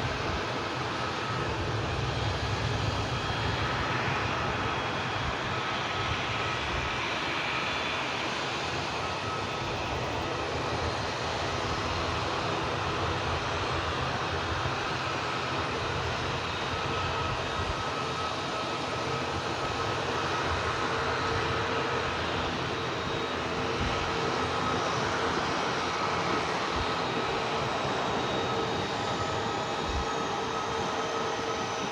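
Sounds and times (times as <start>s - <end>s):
airliner engines running: 0.0s - 31.9s.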